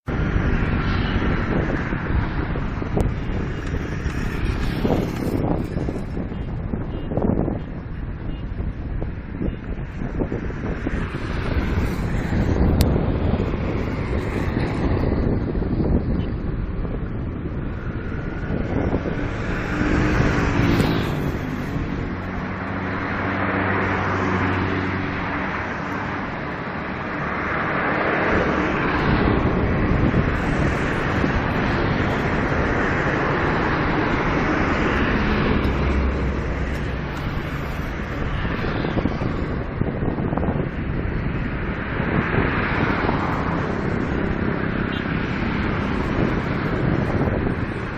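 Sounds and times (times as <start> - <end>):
strong gusting wind: 0.0 - 47.9.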